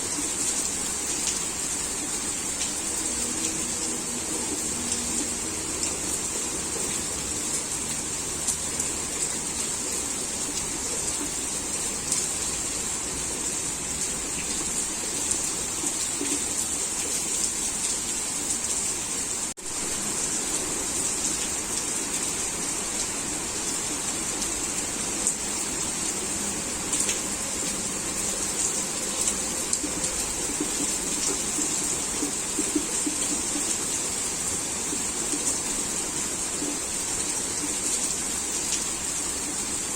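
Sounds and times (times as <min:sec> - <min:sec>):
heavy rain hissing: 0:00.0 - 0:39.9
ticks of raindrops: 0:00.0 - 0:39.9.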